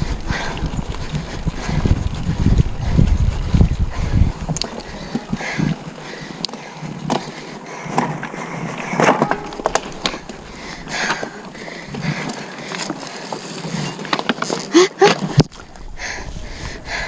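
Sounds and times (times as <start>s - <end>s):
bike rattling and knocking: 0.0s - 15.5s
hard breathing: 0.0s - 17.0s.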